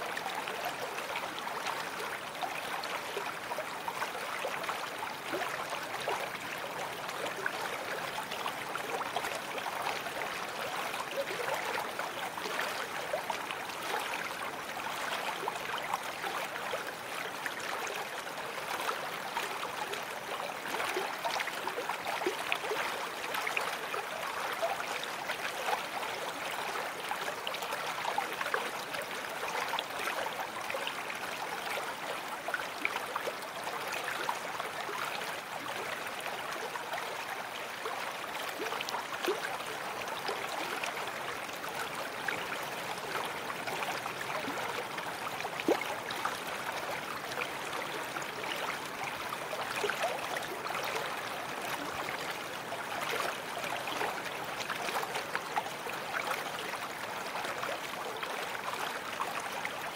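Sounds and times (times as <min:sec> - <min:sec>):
water running in a brook: 0:00.0 - 0:59.9.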